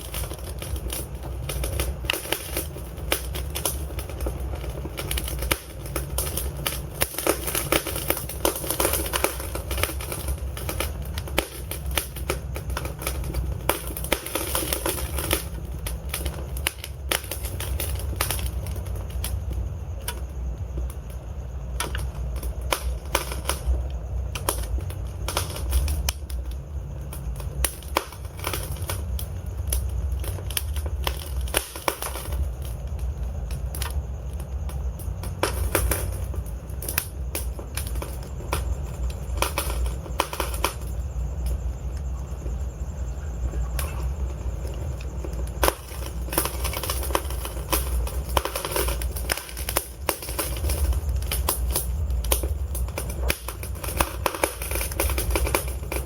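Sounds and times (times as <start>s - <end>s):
burning logs crackling and popping: 0.0s - 56.0s
low rumble of flames: 0.0s - 56.0s.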